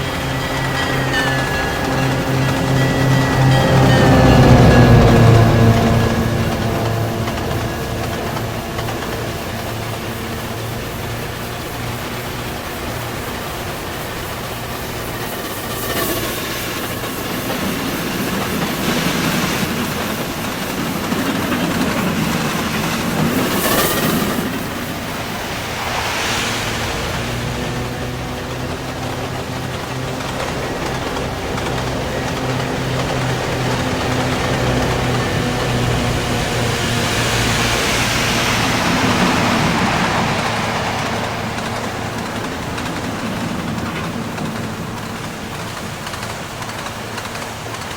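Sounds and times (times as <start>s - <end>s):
train running on track: 0.0s - 47.9s.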